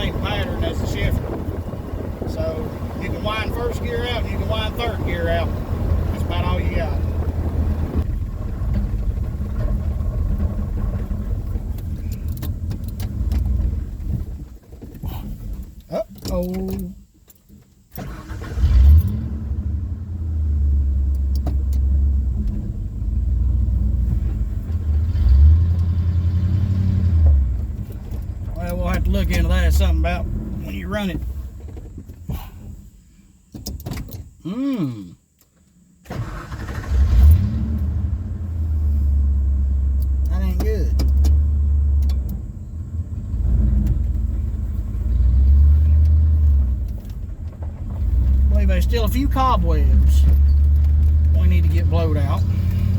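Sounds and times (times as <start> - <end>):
truck engine starting and rumbling: 0.0 - 35.3, 35.9 - 52.9.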